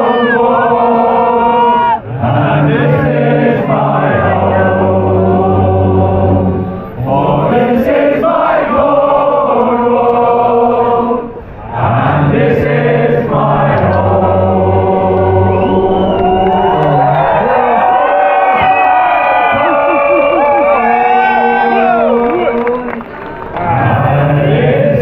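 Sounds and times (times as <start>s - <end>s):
men singing a sea shanty: 0.0s - 18.0s, 19.1s - 25.0s.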